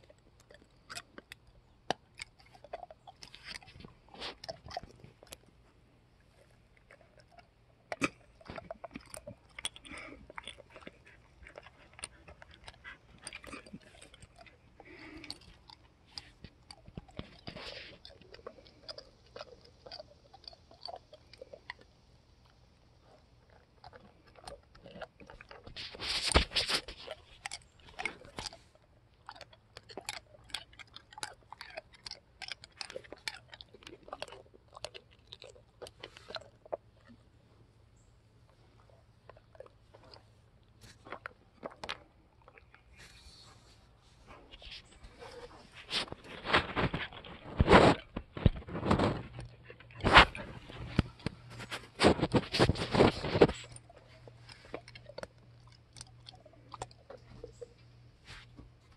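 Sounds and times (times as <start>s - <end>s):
dog crunching something hard: 0.0s - 37.6s, 38.4s - 43.3s, 44.3s - 58.9s.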